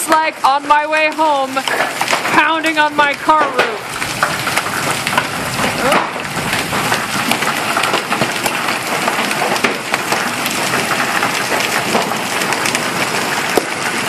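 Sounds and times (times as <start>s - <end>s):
hail clattering on ground and roofs: 0.0s - 14.0s
sharp cracks of large hailstones: 0.0s - 14.0s.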